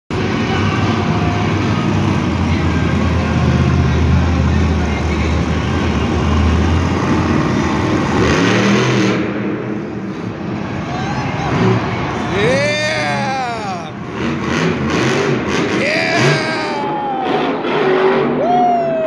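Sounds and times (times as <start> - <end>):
monster truck engine revving: 0.1 - 18.4.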